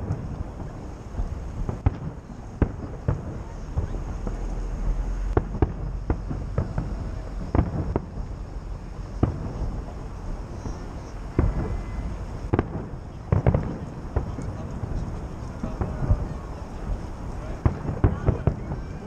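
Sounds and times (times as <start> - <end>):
firework shells bursting: 0.0 - 19.0
low rumble: 0.0 - 19.0.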